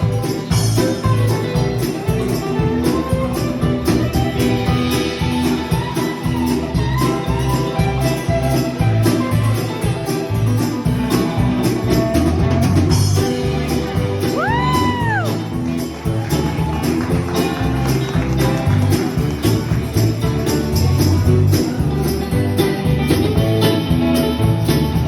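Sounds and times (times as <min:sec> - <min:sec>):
live band playing country song: 0:00.0 - 0:25.0.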